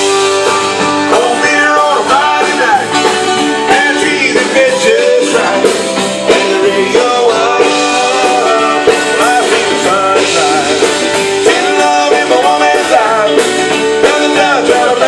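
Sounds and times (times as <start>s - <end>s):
drums: 0.0s - 15.0s
guitars: 0.0s - 15.0s
live band playing: 0.0s - 15.0s.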